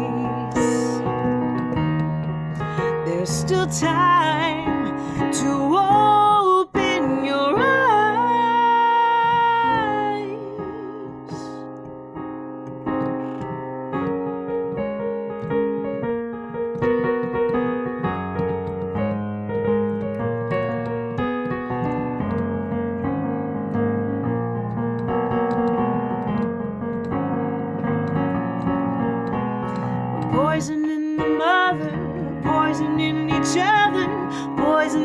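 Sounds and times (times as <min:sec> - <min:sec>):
piano playing chords and melody: 0:00.0 - 0:35.0.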